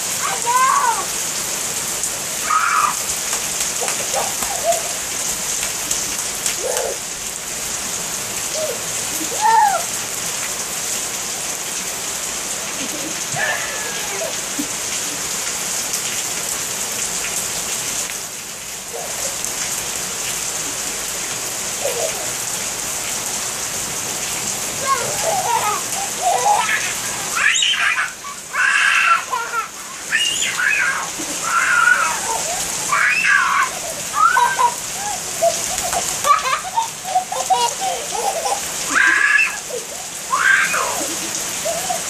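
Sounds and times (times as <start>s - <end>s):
heavy rain on pavement: 0.0s - 42.0s.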